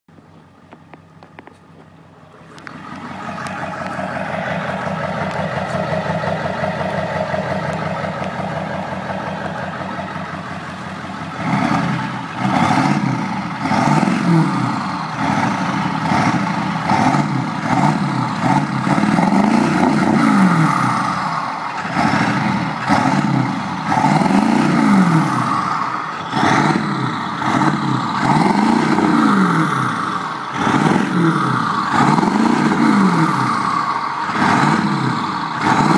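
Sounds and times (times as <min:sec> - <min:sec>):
diesel engine revving: 0:00.4 - 0:35.9.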